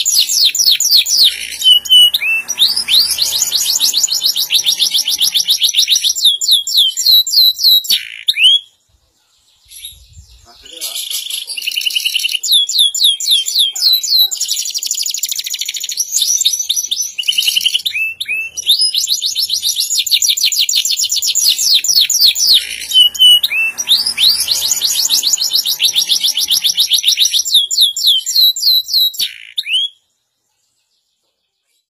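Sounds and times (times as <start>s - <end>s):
canary singing trills: 0.0s - 31.9s.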